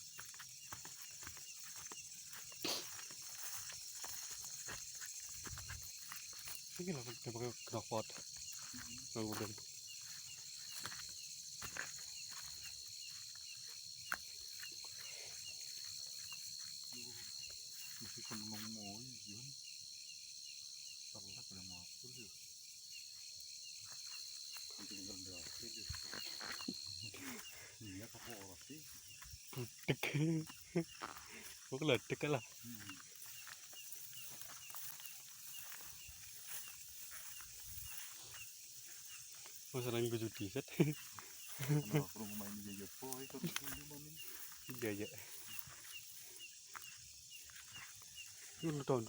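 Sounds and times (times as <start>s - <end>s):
bird chirping: 0.0s - 19.8s, 22.9s - 49.0s
insects buzzing high-pitched: 0.0s - 49.0s.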